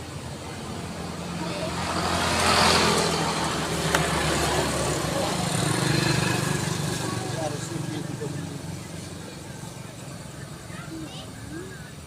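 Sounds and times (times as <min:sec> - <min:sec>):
motor vehicle passing: 0:00.0 - 0:12.0.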